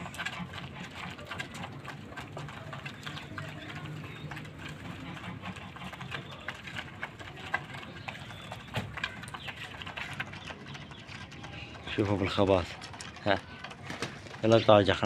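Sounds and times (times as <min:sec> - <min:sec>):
birds clicking and scuffing: 0:00.0 - 0:15.0
pigeons cooing: 0:00.0 - 0:15.0.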